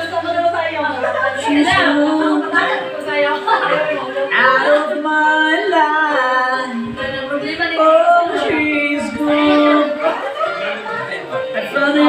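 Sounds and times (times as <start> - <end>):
backing track music: 0.0 - 12.0.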